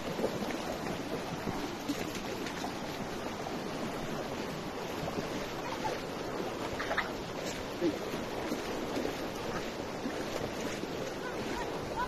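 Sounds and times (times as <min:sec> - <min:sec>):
people wading splashing: 0:00.0 - 0:12.0
shallow river rushing: 0:00.0 - 0:12.0.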